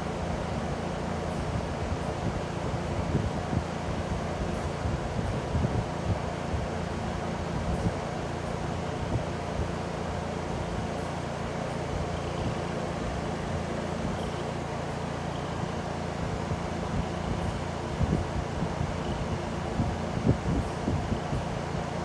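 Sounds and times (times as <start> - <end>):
electric fan whirring: 0.0 - 22.0.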